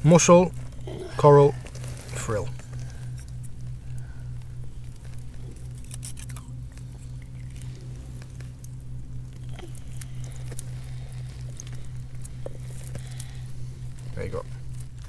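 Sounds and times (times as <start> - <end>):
steady low hum: 0.0 - 15.0
wet scraping: 1.5 - 15.0.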